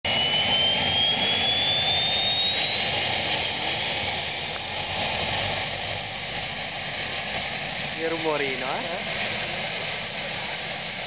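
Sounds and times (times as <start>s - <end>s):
helicopter engine running: 0.1s - 11.0s
high whine rising in pitch: 0.1s - 11.0s.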